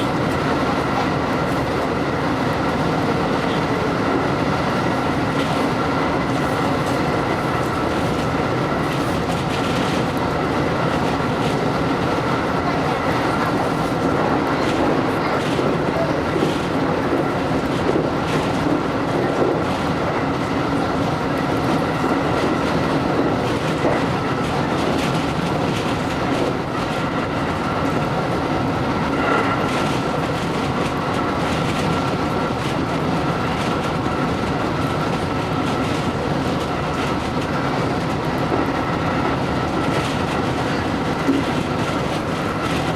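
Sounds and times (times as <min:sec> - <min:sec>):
train rumble: 0:00.0 - 0:42.9.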